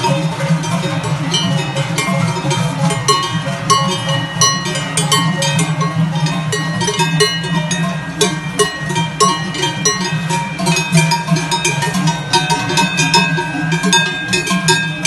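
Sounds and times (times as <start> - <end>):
cowbells clanging: 0.0 - 15.0.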